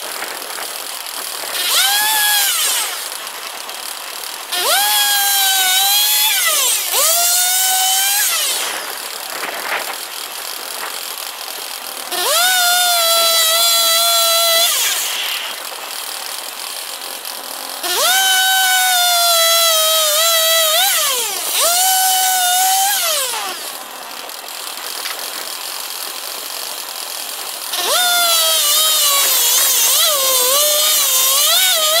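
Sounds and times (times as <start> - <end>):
saw blade cutting wood: 0.0 - 32.0
sawmill engine revving: 0.0 - 32.0.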